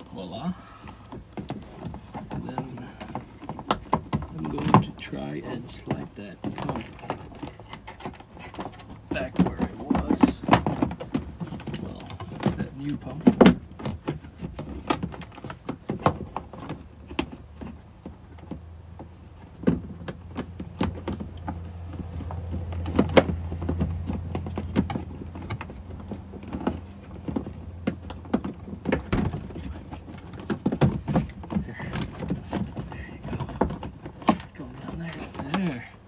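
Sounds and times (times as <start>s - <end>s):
plastic clicks and knocks: 1.1s - 36.0s.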